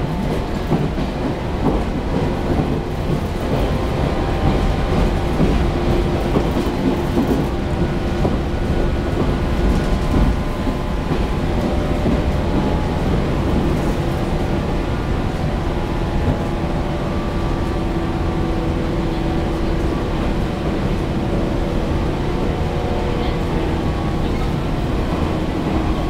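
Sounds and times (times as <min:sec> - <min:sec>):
train carriage running noise: 0:00.0 - 0:26.0.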